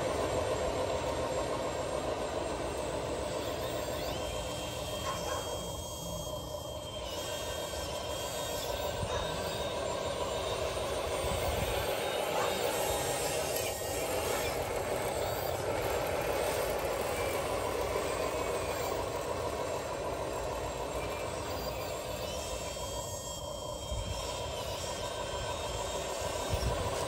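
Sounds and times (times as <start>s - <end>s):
toy wheel loader motor humming: 0.0s - 27.0s.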